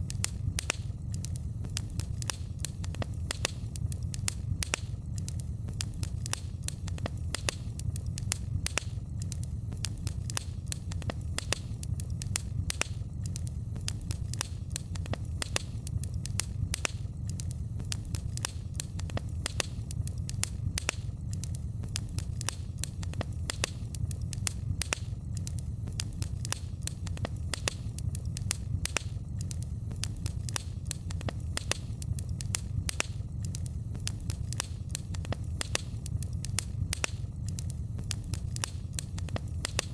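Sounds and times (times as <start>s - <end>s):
low rumble of flames: 0.0s - 39.9s
sharp pops and snaps of fire: 0.0s - 39.9s
wood fire crackling: 0.0s - 39.9s.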